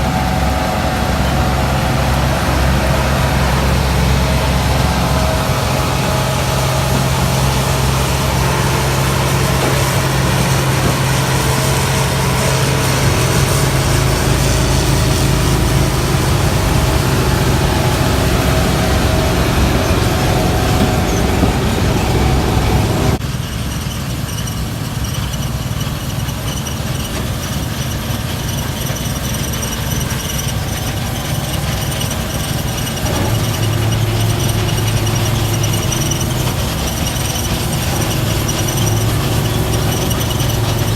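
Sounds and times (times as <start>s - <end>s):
high-pitched squeal: 0.0s - 40.9s
low engine drone: 0.0s - 40.9s.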